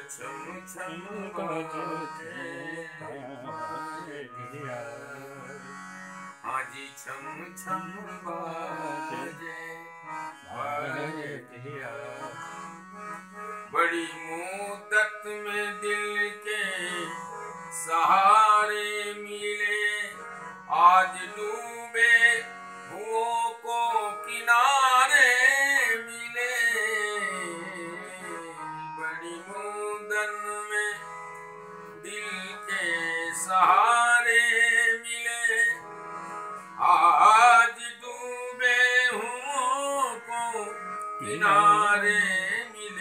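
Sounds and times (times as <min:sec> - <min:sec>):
man singing: 0:00.0 - 0:12.6, 0:13.7 - 0:31.2, 0:32.0 - 0:43.0
harmonium melody: 0:00.0 - 0:43.0.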